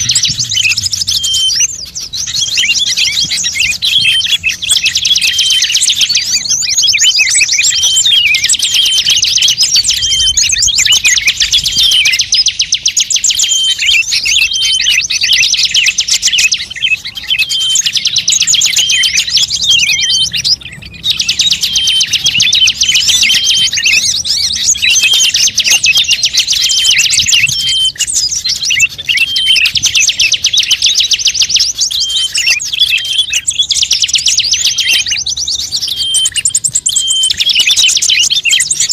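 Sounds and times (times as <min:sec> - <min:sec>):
songbird chattering trills: 0:00.0 - 0:38.9.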